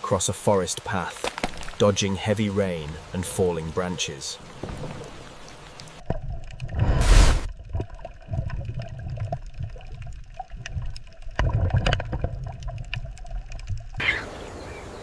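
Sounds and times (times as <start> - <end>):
water dripping and splashing: 0.0 - 14.6.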